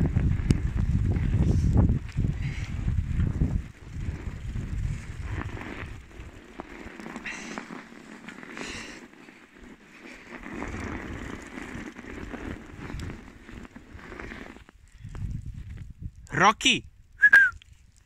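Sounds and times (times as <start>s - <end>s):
bicycle tyres crunching snow: 0.0s - 16.4s.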